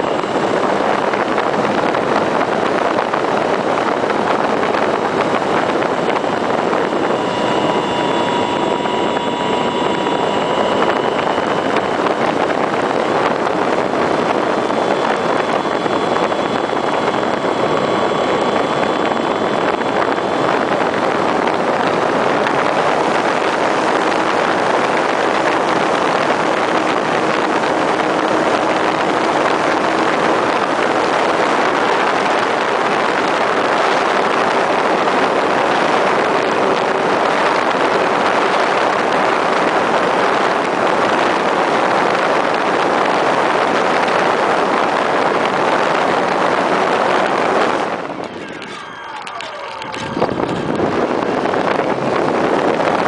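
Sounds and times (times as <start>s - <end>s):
electric model plane motor: 0.0s - 53.0s
faint high whine: 0.0s - 53.0s
rush of air over camera: 0.0s - 53.0s.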